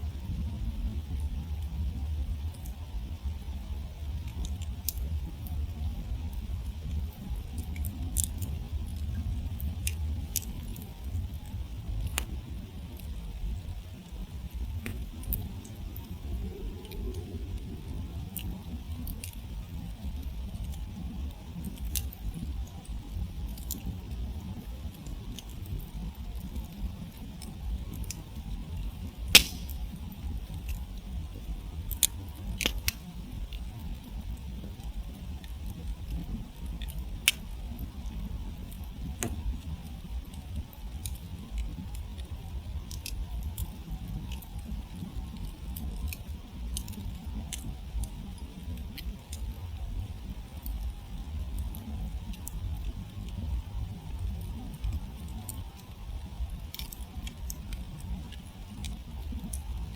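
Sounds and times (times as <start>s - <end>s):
campfire crackling and popping: 0.0s - 59.9s
low steady rumble: 0.0s - 59.9s.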